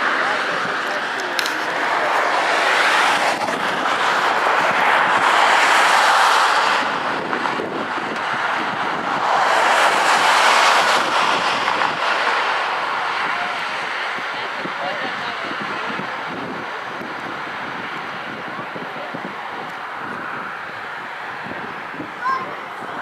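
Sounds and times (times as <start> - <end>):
fireworks roaring: 0.0 - 23.0.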